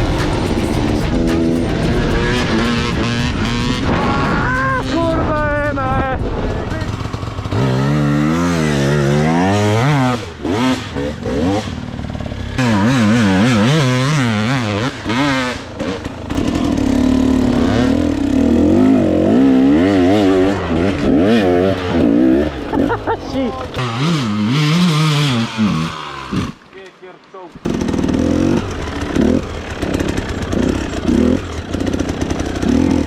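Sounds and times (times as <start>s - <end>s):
dirt bike engine revving: 0.0s - 26.8s, 27.5s - 33.0s.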